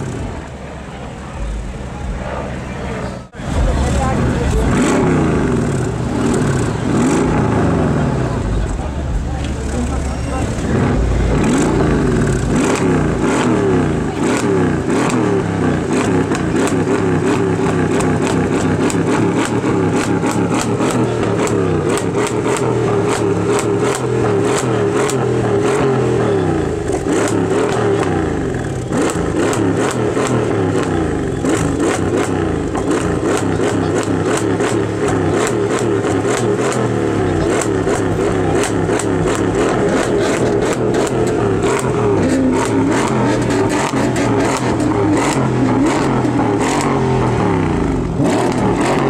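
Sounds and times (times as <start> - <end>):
car engine revving with crackles: 0.0 - 49.0.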